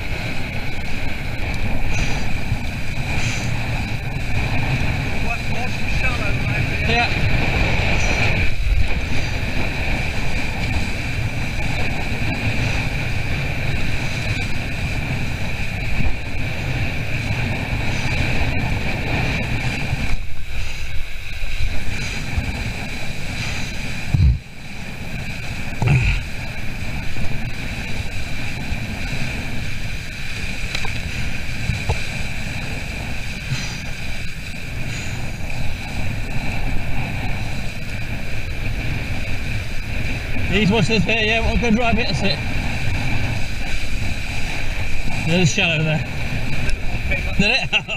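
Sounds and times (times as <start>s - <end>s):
water rushing along hull: 0.0s - 47.9s
wind buffeting microphone: 0.0s - 47.9s.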